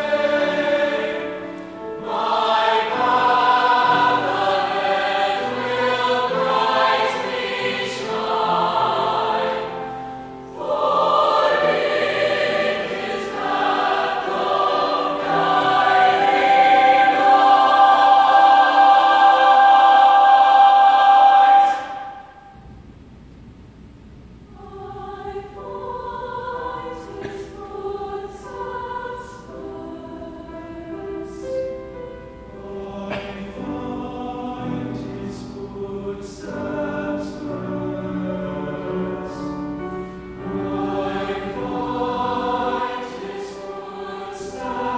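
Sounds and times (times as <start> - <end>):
piano accompaniment: 0.0 - 21.8, 28.6 - 44.9
mixed choir singing: 0.0 - 22.6, 24.6 - 44.9.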